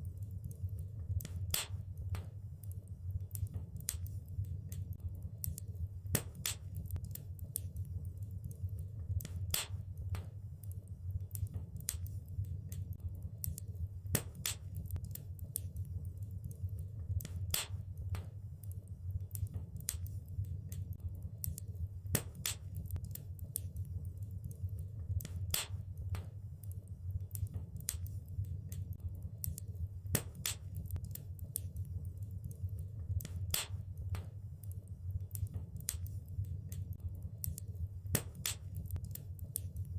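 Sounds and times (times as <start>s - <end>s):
steady low rumble: 0.0s - 39.9s
wood fire crackling: 0.0s - 39.9s.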